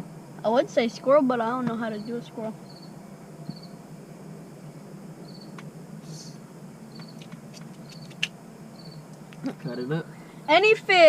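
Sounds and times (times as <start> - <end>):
cricket chirping: 0.0 - 11.0
low steady hum: 0.0 - 11.0.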